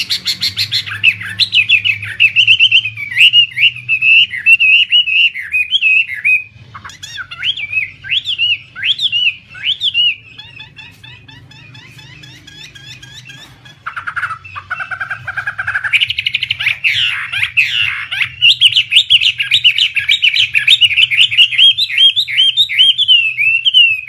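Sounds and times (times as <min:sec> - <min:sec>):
bird song whistled notes: 0:00.0 - 0:24.0.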